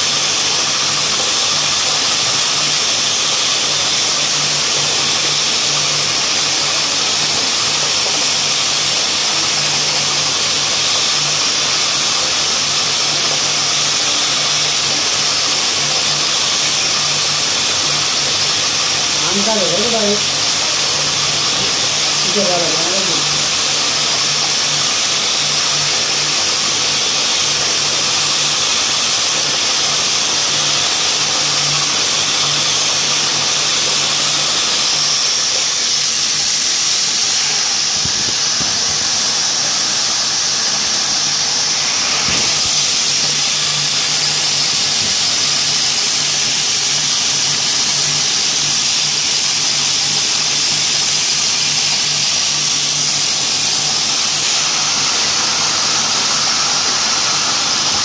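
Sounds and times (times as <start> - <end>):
spinning spindles whirring: 0.0 - 58.0.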